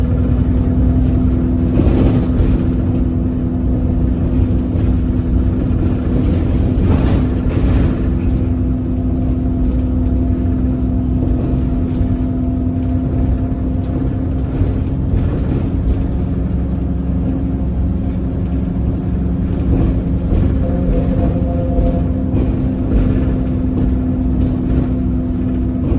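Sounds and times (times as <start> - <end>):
bus engine droning: 0.0 - 25.9.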